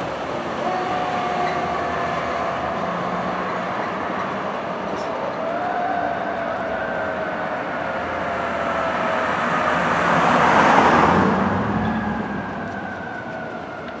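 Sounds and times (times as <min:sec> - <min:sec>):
car passing by: 0:00.0 - 0:14.0
faint siren: 0:00.2 - 0:14.0.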